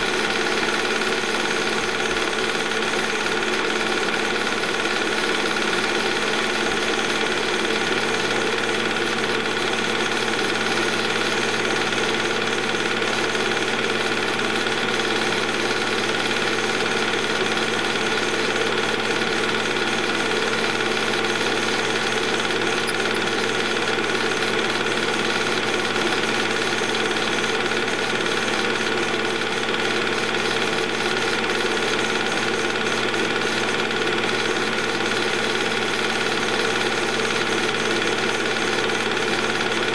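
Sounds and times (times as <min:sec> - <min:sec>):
movie projector whirring and clattering: 0:00.0 - 0:39.9.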